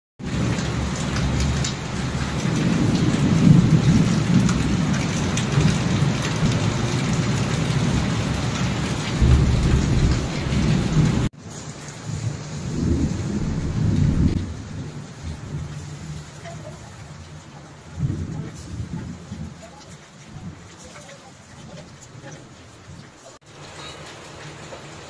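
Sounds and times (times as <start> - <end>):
heavy rain on tiles: 0.2 - 25.0
runoff splashing on tiles: 0.2 - 25.0.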